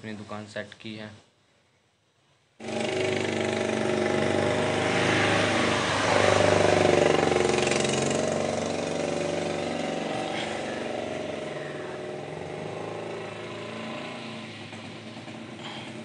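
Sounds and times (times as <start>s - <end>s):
engine humming: 2.6s - 16.0s.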